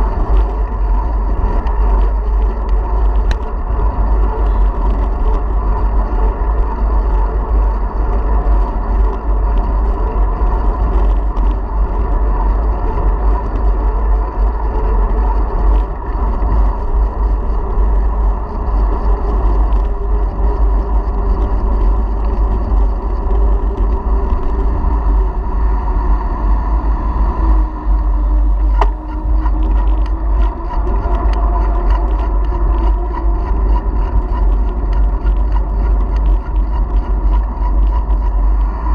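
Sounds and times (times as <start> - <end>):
hum of moving bicycle: 0.0 - 38.9
wind rumbling on microphone: 0.0 - 38.9.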